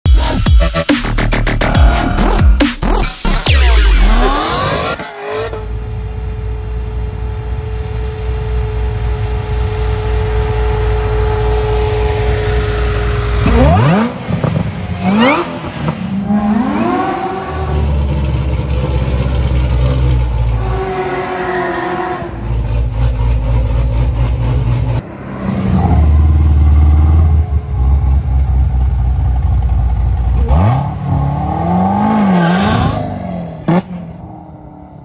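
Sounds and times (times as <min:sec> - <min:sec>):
engine revving: 0:00.8 - 0:35.0.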